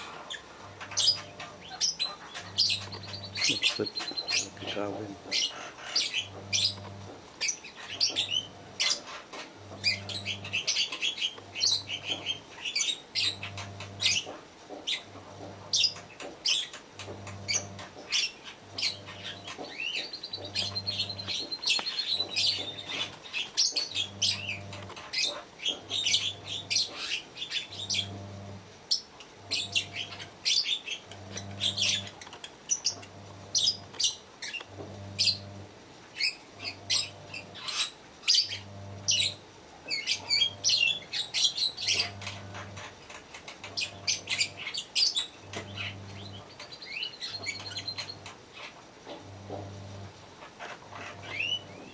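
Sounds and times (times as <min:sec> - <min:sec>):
lovebirds chirping: 0:00.0 - 0:51.9.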